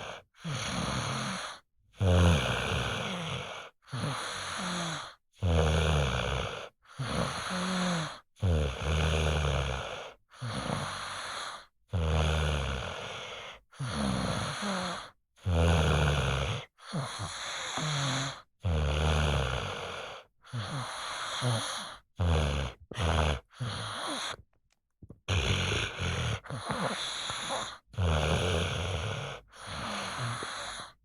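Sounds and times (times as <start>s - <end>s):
child snoring: 0.0s - 24.4s, 25.3s - 31.0s.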